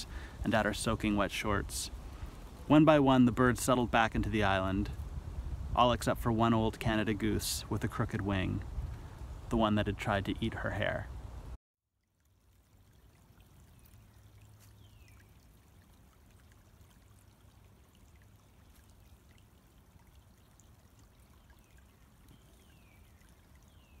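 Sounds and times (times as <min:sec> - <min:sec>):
creek trickling: 0:00.0 - 0:24.0.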